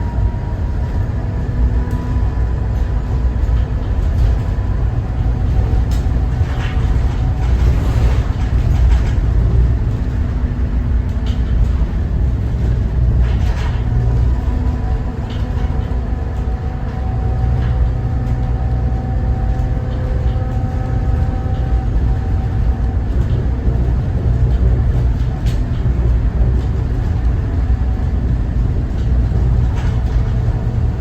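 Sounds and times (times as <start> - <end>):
bus diesel engine rumbling: 0.0 - 31.0.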